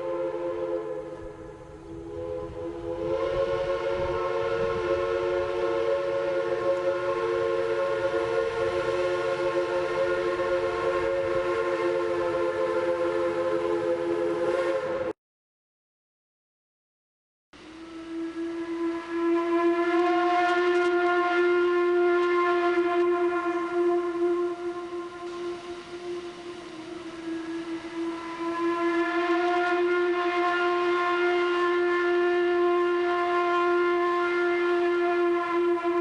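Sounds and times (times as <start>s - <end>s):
train whistle chord: 0.0s - 15.2s, 17.6s - 36.0s.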